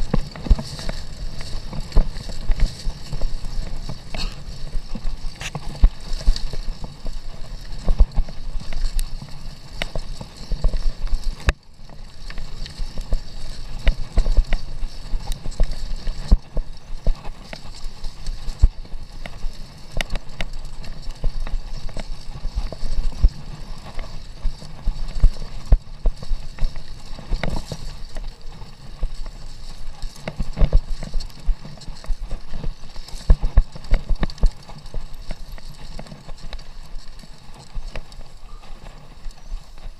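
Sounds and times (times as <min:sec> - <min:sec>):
mountain bike rattling: 0:00.0 - 0:39.9
rumble of tyres on dirt: 0:00.0 - 0:39.9.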